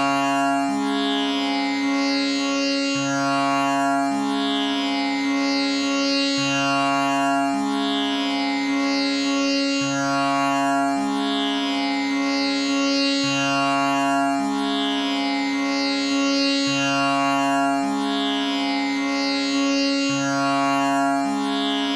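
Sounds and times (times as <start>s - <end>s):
tanpura drone: 0.0s - 21.9s.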